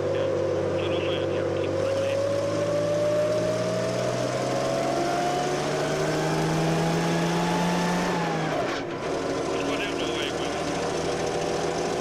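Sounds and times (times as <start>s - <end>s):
armoured car engine running: 0.0s - 12.0s.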